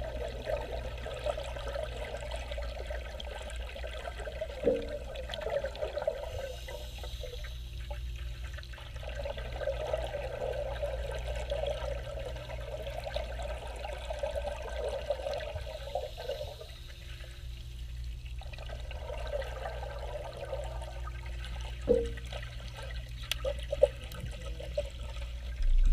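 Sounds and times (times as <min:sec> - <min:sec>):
steady low hum: 0:00.0 - 0:25.9
underwater bubbles gurgling: 0:00.0 - 0:25.9.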